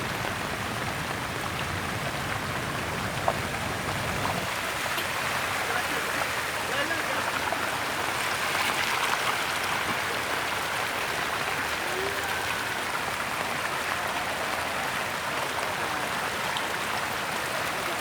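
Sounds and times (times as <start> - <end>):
fast-flowing water rushing: 0.0 - 18.0.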